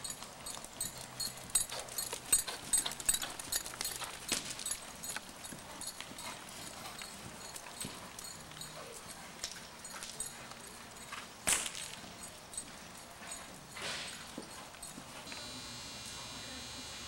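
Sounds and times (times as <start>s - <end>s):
horse hoofbeats on dirt: 0.0s - 15.4s.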